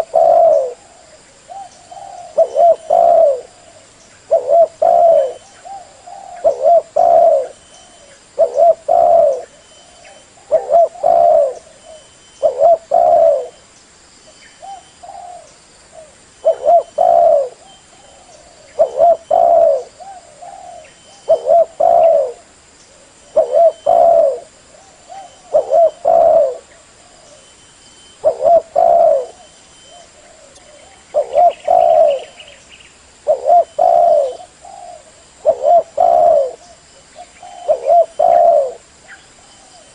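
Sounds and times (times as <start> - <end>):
dove cooing: 0.0 - 13.6, 14.6 - 27.5, 28.2 - 32.6, 33.2 - 39.9
faint bird chirp: 0.0 - 39.9.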